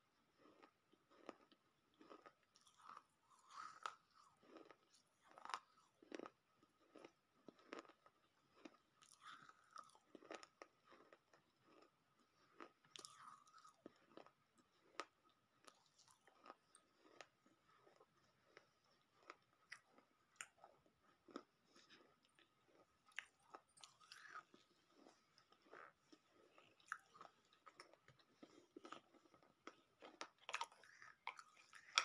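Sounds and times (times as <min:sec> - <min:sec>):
crunching and chewing clay: 0:00.2 - 0:32.0.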